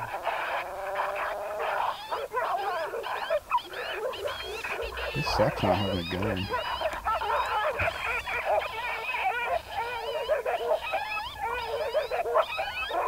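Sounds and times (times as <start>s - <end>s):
coyotes yipping and howling: 0.0s - 13.0s.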